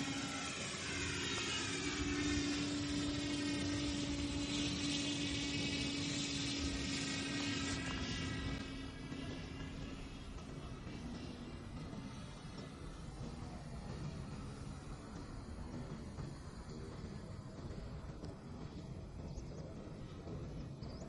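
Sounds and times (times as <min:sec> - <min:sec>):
high whines sliding down: 0:00.0 - 0:18.3
drone motors whirring: 0:00.0 - 0:21.0.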